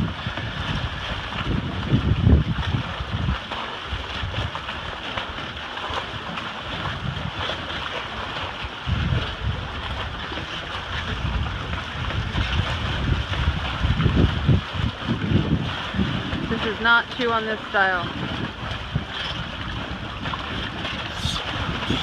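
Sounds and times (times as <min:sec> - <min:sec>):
rush of wind and water: 0:00.0 - 0:22.0
wind buffeting microphone: 0:00.0 - 0:22.0.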